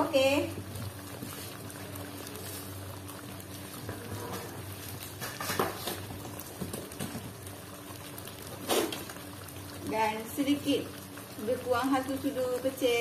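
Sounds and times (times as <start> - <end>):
sauce bubbling and popping: 0.0 - 12.9.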